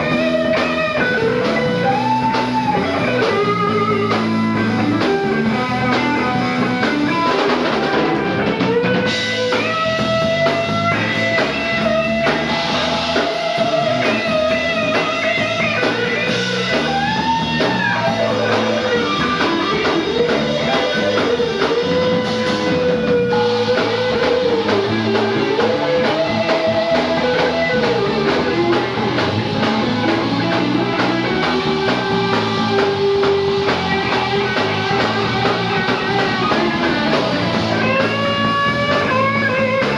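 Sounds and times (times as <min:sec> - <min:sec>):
drum kit: 0:00.0 - 0:39.9
electric guitar lead: 0:00.0 - 0:39.9.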